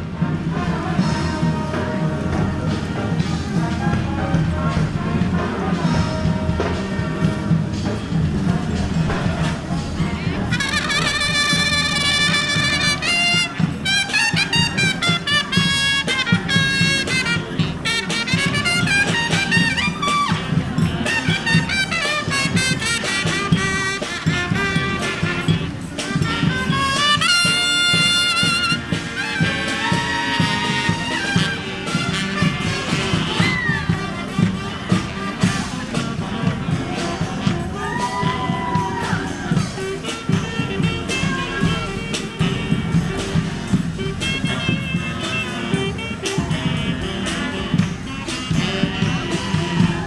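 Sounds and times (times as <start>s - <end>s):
brass band playing march: 0.0s - 50.0s.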